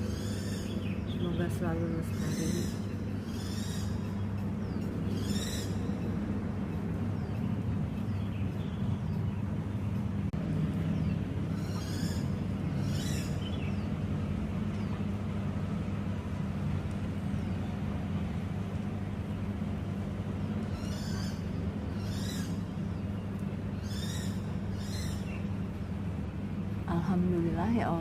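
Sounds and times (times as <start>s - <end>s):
steady low hum: 0.0s - 28.0s
wild birds chirping: 0.0s - 28.0s.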